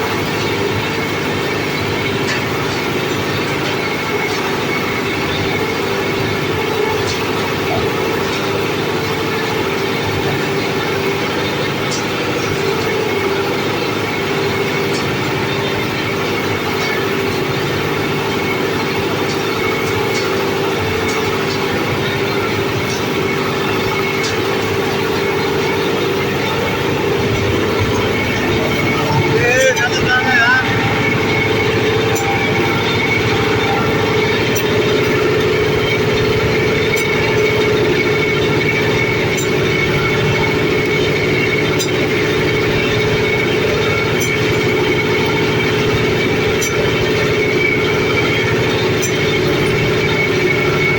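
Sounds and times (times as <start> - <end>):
machine mechanical hum: 0.0 - 50.9.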